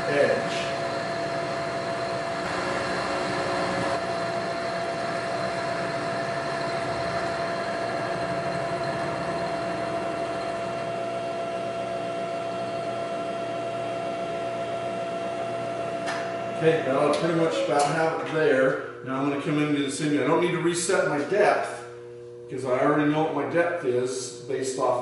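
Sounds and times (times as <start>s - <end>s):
milling machine whining hum: 0.0s - 25.0s.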